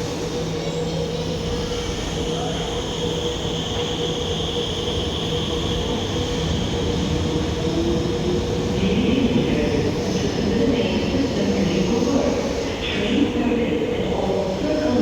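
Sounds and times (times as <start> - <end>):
train hum and rumble: 0.0 - 15.0.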